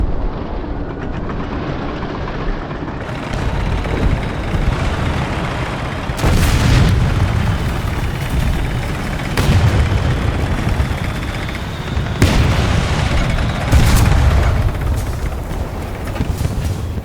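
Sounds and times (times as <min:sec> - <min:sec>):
deep explosion rumble: 0:00.0 - 0:17.0
explosion blast: 0:03.0 - 0:17.0.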